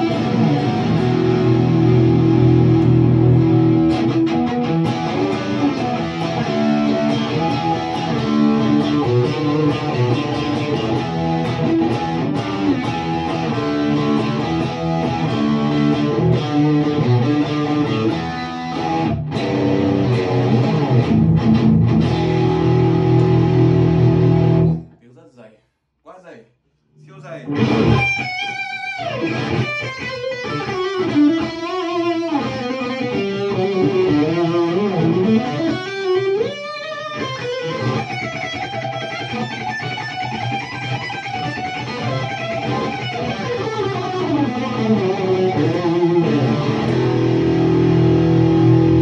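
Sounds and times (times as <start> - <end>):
electric guitar through amplifier: 0.0 - 24.9, 27.4 - 49.0.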